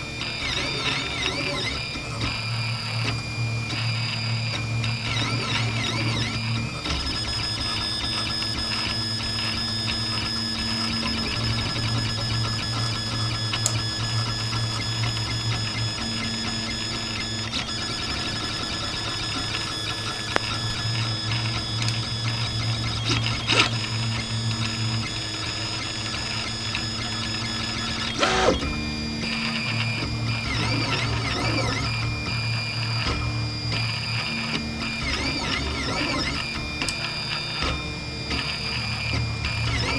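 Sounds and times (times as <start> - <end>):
stepper motors whining: 0.0 - 39.9.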